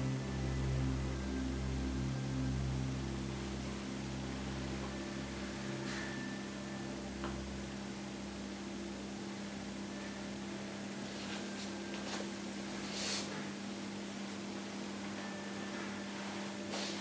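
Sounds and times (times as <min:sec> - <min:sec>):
background hiss: 0:00.0 - 0:17.0
electrical hum: 0:00.0 - 0:17.0.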